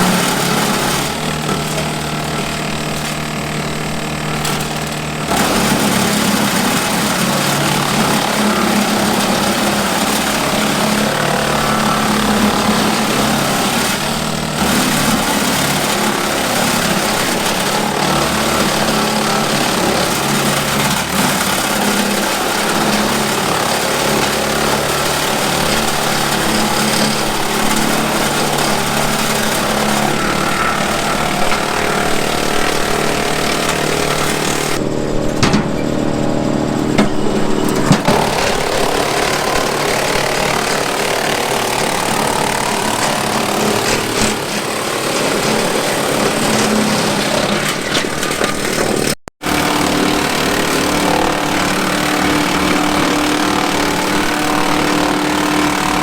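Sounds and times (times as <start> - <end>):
tractor engine running: 0.0 - 56.0
wood chipper grinding brush: 0.0 - 56.0.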